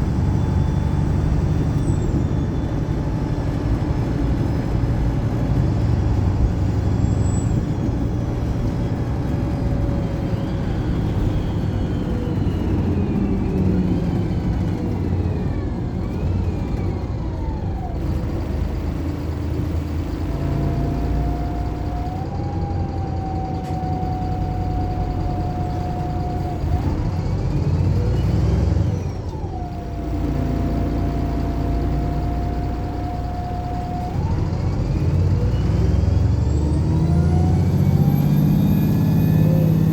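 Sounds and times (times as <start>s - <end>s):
bus engine droning: 0.0s - 39.9s
drivetrain whine: 0.0s - 39.9s.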